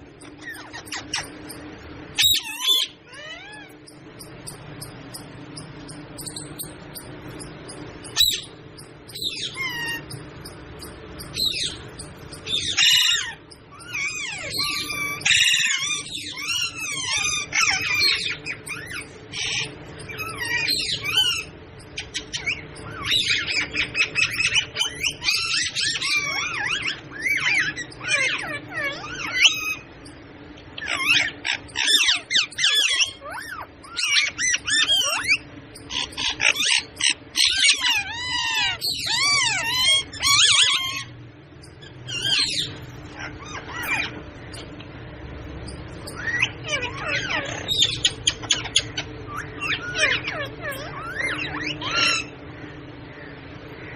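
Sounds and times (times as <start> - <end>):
parrot chattering and squawking: 0.0 - 53.9.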